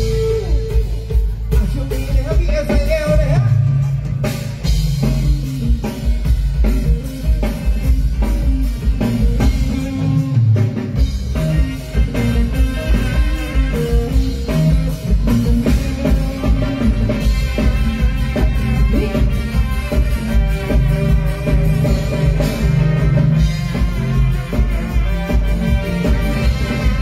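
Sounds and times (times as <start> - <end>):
bass guitar: 0.0 - 27.0
drum kit beat: 0.0 - 27.0
electric guitar: 0.0 - 27.0
keyboard: 0.0 - 27.0.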